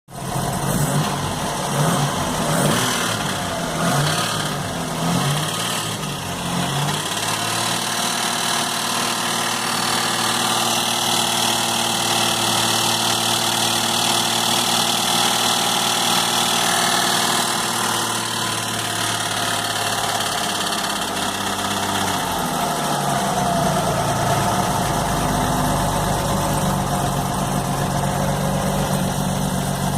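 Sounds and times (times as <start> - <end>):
car engine idling with rattle: 0.1 - 29.9.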